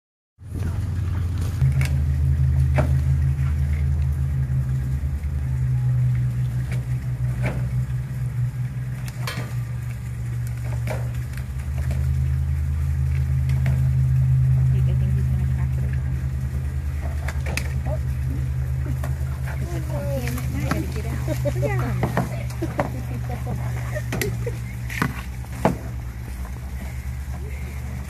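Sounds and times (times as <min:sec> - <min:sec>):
vehicle engine idling hum: 0:00.4 - 0:28.0.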